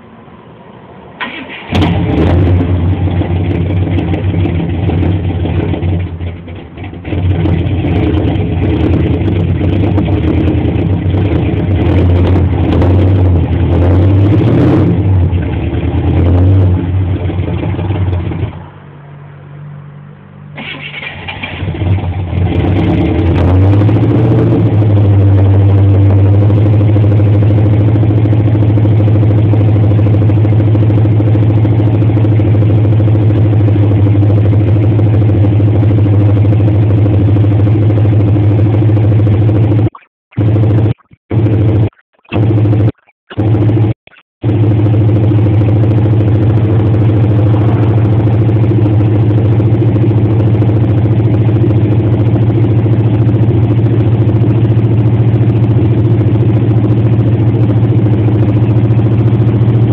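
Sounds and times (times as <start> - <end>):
car engine running: 1.6 - 18.9, 20.5 - 59.9.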